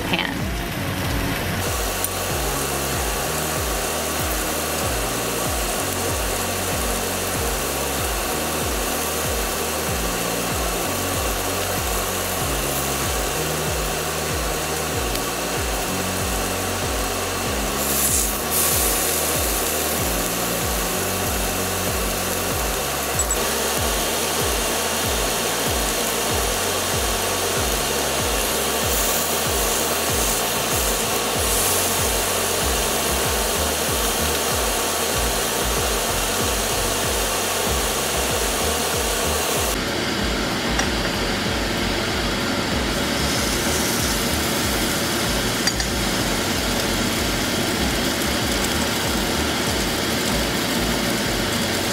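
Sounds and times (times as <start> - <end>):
background music with bass line: 0.0 - 51.9
meat sizzling in frying pan: 0.8 - 51.9.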